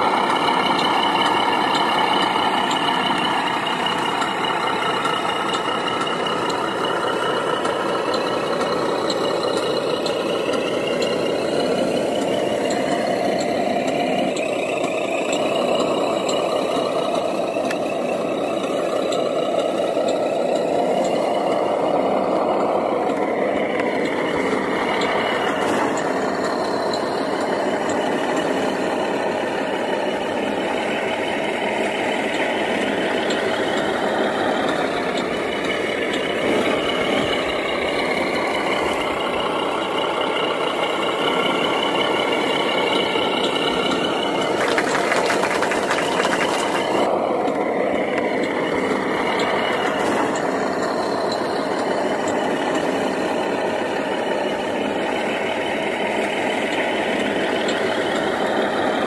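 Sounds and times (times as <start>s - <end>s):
toy truck motor drone: 0.0s - 59.0s.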